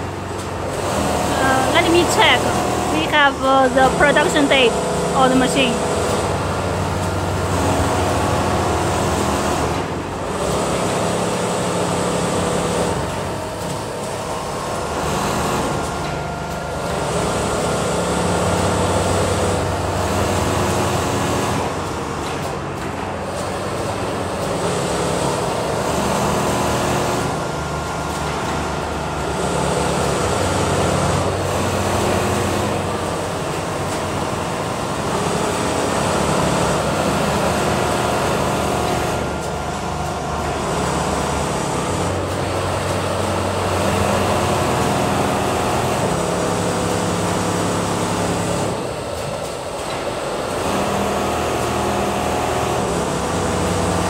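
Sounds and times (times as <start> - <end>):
sewing machines humming: 0.0 - 54.0.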